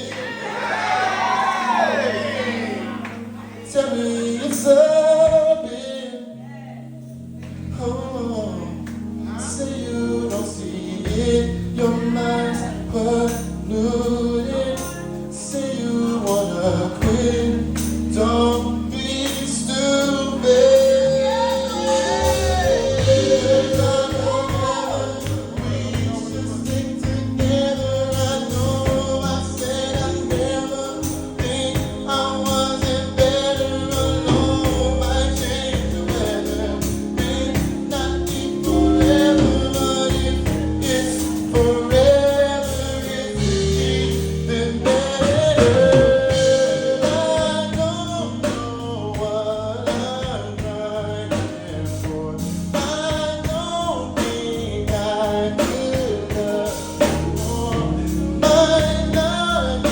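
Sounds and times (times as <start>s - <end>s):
person singing: 0.0s - 59.9s
music with steady beat: 7.0s - 59.9s.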